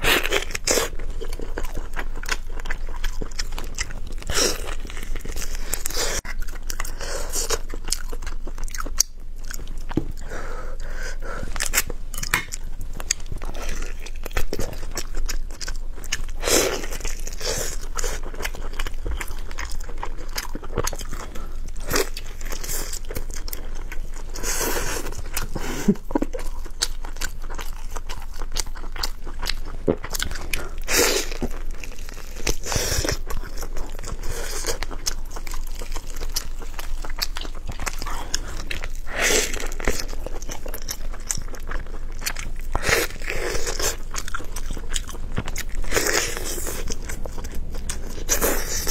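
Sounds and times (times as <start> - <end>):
person chewing wetly: 0.0 - 10.3, 11.4 - 48.9.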